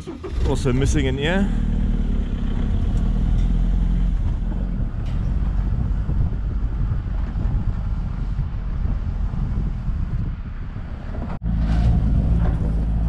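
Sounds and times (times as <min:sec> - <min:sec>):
vehicle engine rumbling: 0:00.0 - 0:13.0
wind noise on microphone: 0:01.9 - 0:13.0.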